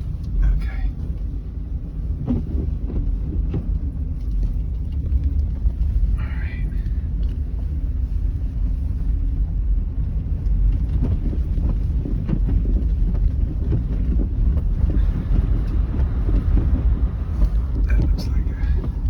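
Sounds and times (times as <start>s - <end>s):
tyre and engine rumble: 0.0s - 19.0s.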